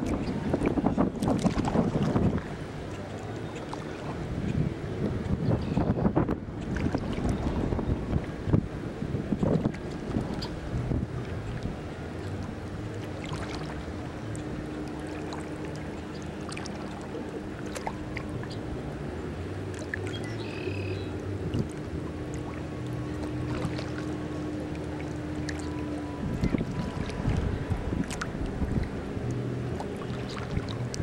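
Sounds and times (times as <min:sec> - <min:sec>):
lapping water: 0:00.0 - 0:05.4, 0:09.4 - 0:18.6, 0:19.7 - 0:31.0.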